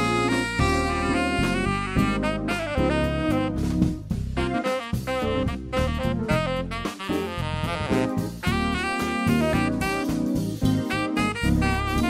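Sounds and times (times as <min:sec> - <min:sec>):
keyboard and drum kit: 0:00.0 - 0:12.0
saxophone melody: 0:00.0 - 0:12.0.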